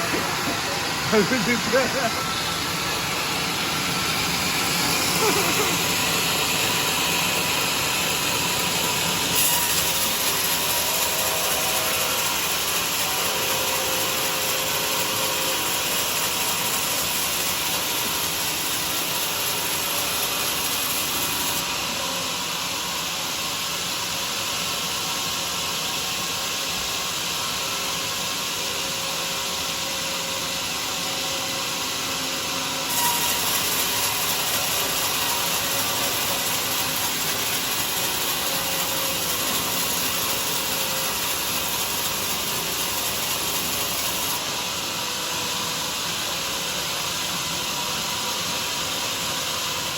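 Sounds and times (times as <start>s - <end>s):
sawmill rasping through log: 0.0s - 23.4s, 27.7s - 49.9s.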